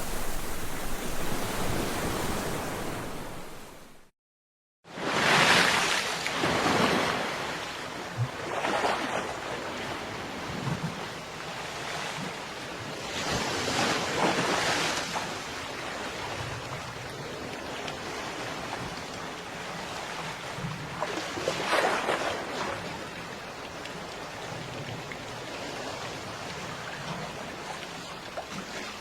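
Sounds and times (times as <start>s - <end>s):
ocean waves breaking on beach: 0.0s - 4.1s, 4.9s - 29.0s.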